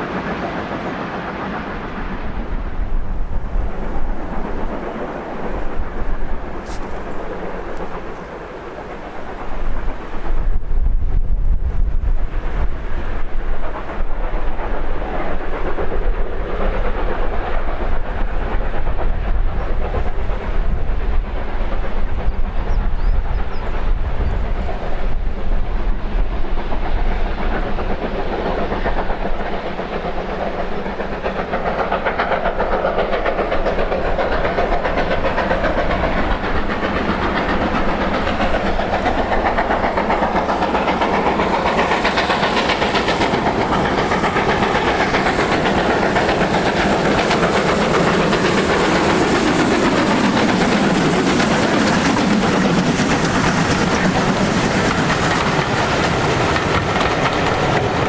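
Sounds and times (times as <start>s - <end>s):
train wheels clattering over rail joints: 0.0s - 10.6s, 12.1s - 58.0s
steam locomotive exhaust: 0.0s - 58.0s.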